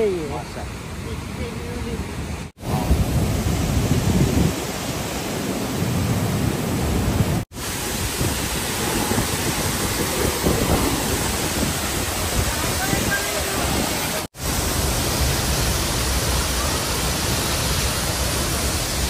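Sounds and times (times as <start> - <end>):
waterfall roaring: 0.2 - 19.0.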